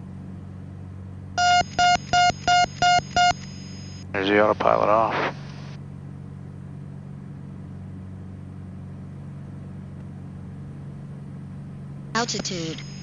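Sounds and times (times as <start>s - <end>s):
propeller engines droning: 0.0s - 13.0s.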